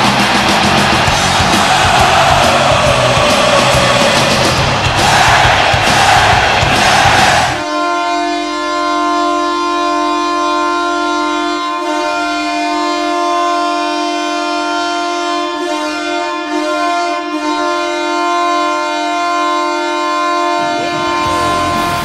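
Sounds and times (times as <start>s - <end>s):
arena goal horn blast: 0.0s - 22.0s.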